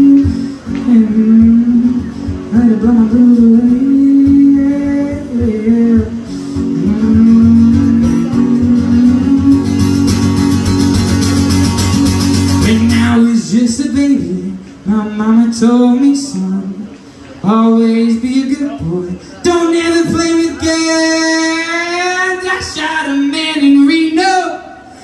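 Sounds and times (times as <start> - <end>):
man singing: 0.0 - 10.6, 12.3 - 24.9
acoustic guitar strumming: 0.0 - 24.7.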